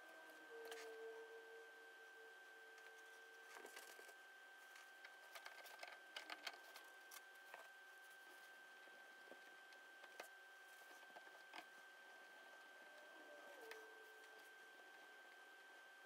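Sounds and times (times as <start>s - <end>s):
faint steady high tone: 0.0s - 16.0s.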